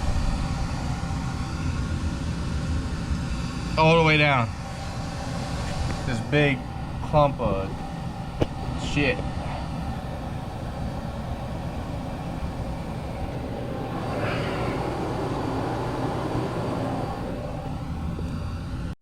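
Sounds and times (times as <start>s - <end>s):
vent cleaning machine rumbling: 0.0s - 19.0s.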